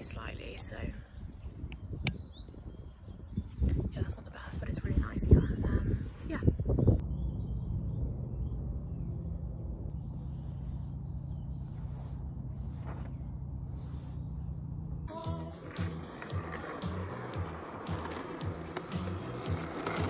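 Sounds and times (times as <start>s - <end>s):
steady low rumble: 0.0s - 18.7s
birds chirping: 0.0s - 20.0s.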